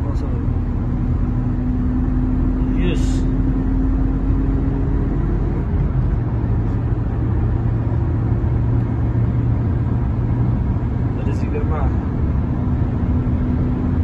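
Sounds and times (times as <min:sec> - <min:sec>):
car cabin engine and road drone: 0:00.0 - 0:14.0.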